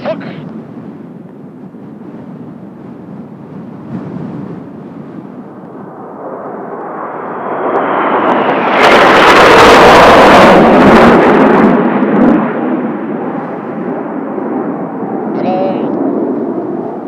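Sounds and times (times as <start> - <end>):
jet aircraft roar overhead: 0.0 - 17.0.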